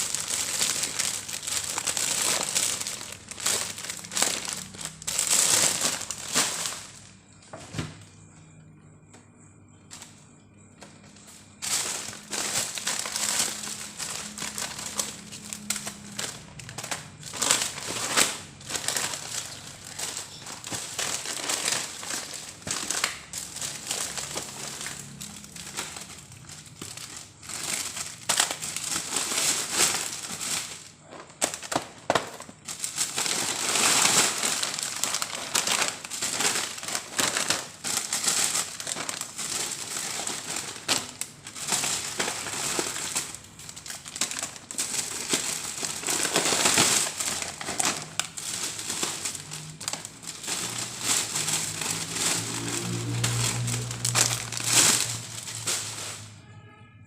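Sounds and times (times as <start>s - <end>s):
plastic packaging crinkling: 0.0s - 8.0s, 9.7s - 56.4s.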